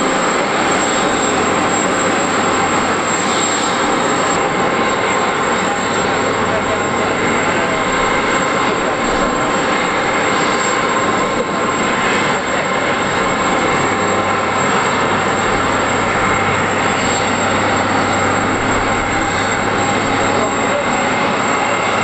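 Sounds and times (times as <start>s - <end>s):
jet engine high whine: 0.0s - 22.0s
rush of noise: 0.0s - 22.0s.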